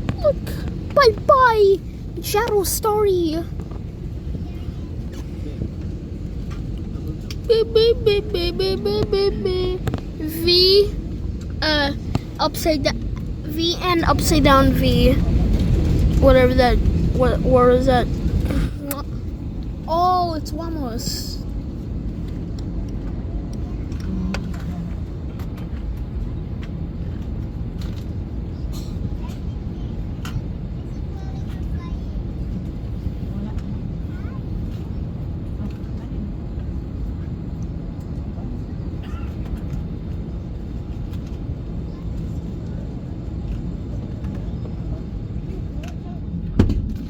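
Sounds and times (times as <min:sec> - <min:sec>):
airliner cabin rumble: 0:00.0 - 0:47.0.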